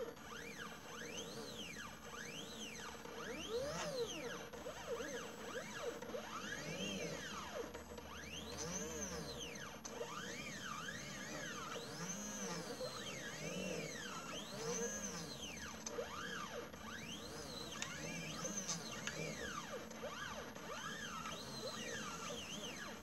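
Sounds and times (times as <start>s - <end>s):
stepper motors whining: 0.0s - 23.0s.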